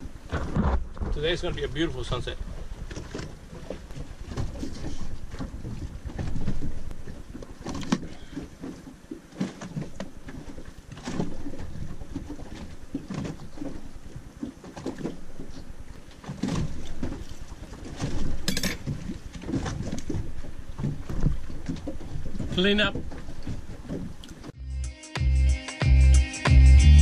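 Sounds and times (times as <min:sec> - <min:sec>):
waves lapping against boat hull: 0:00.0 - 0:24.6.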